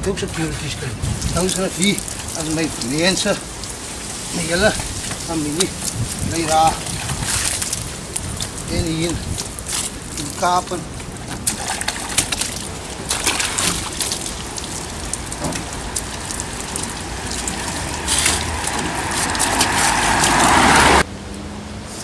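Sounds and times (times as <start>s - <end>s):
water splashing and dripping: 0.0s - 21.1s
wet cloth rubbing car: 0.4s - 21.0s.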